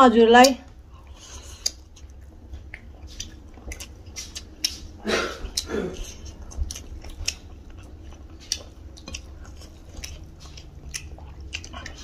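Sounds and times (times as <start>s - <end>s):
low steady hum: 0.0s - 12.0s
wet mouth chewing clicks: 1.0s - 12.0s.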